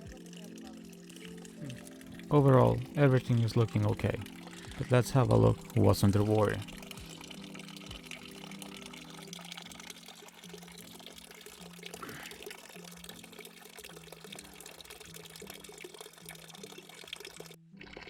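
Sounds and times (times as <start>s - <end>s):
water trickling into pond: 0.0s - 18.0s.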